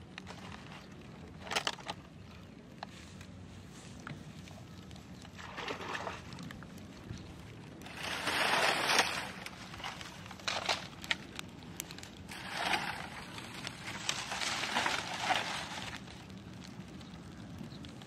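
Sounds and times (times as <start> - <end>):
burning leaves crackling: 0.0 - 18.0
dry fronds rustling and crunching: 0.0 - 18.0.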